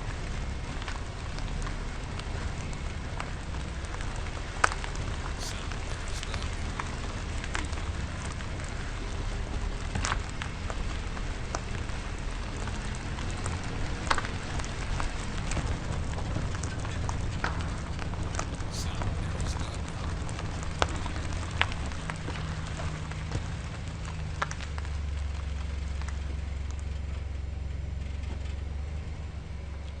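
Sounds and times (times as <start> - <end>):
car tyres rolling over gravel: 0.0 - 5.4, 6.6 - 18.6, 20.1 - 30.0.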